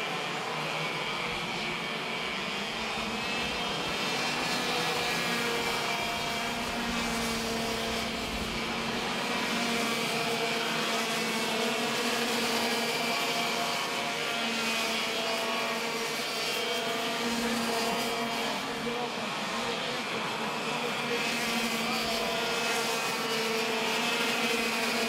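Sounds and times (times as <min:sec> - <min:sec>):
kart engines buzzing: 0:00.0 - 0:25.0.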